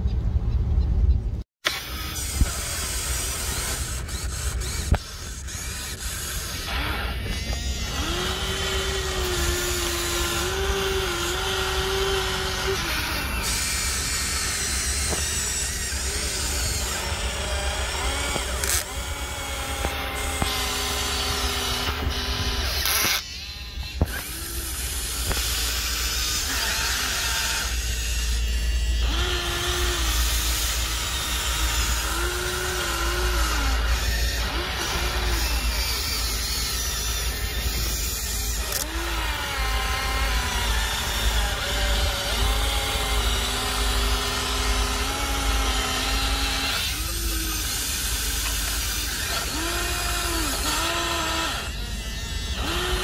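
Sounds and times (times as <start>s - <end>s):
electric motors whining: 1.6s - 53.0s.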